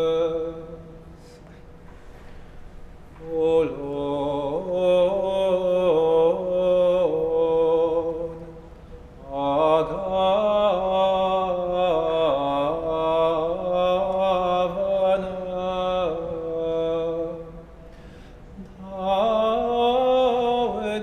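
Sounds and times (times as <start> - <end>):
church singing over held note: 3.2 - 21.0.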